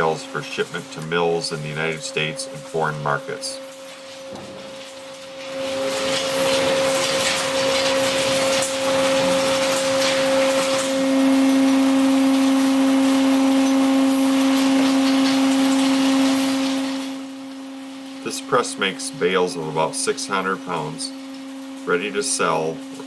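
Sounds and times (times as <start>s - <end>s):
machinery drone with rattling hiss: 0.0s - 21.1s.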